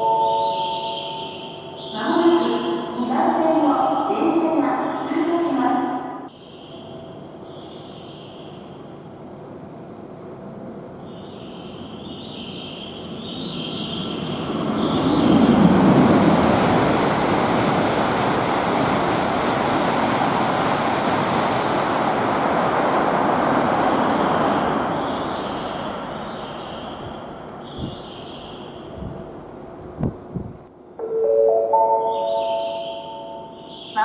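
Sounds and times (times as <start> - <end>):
bullet train passing at high speed: 0.0 - 34.0.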